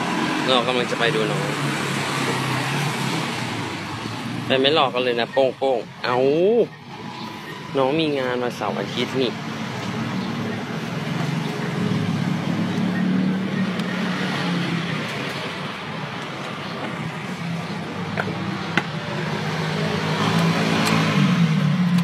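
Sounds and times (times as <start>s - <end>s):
vehicle drone with road hiss: 0.0s - 22.0s.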